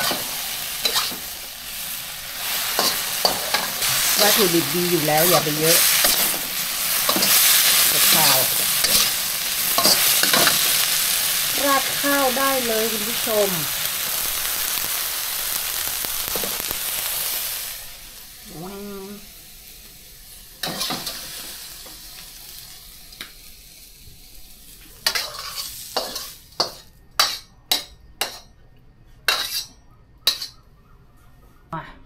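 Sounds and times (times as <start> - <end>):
food sizzling in a hot pan: 0.0 - 28.5.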